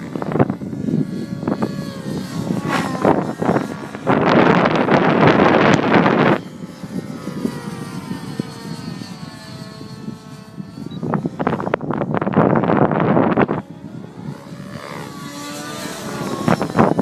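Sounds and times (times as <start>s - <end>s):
rc helicopter engine and rotor: 0.0s - 17.0s
wind buffeting on microphone: 0.0s - 17.0s.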